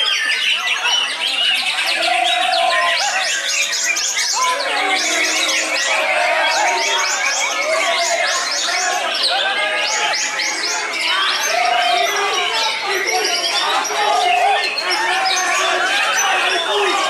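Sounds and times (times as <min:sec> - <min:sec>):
caged songbirds singing: 0:00.0 - 0:17.0.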